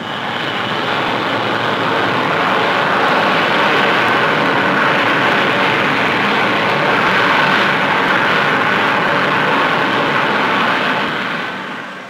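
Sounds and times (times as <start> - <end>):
jet engine roaring with whine: 0.0 - 12.0.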